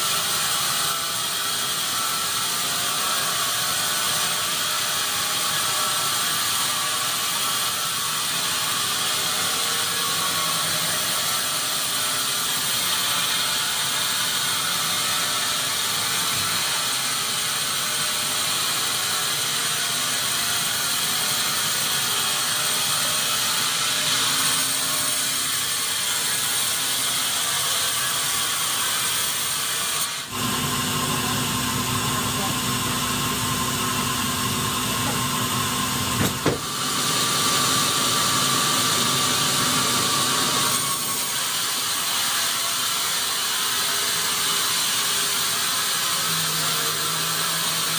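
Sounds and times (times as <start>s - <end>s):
saw rasping through wood: 0.0s - 47.9s.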